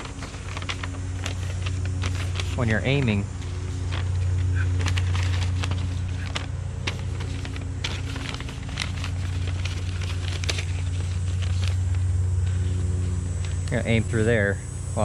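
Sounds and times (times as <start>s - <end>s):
paper crinkling and crackling: 0.0s - 14.0s
low machine hum: 0.0s - 15.0s.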